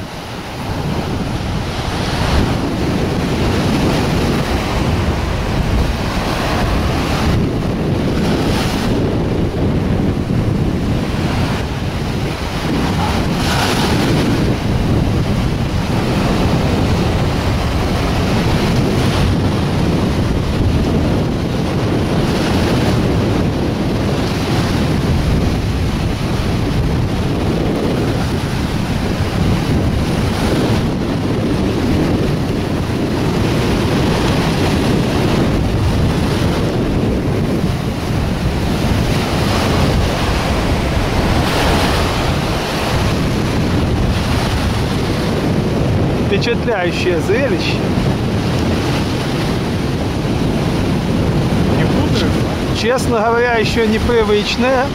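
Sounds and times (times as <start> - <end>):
breaking surf: 0.0 - 54.9
wind buffeting microphone: 0.0 - 54.9.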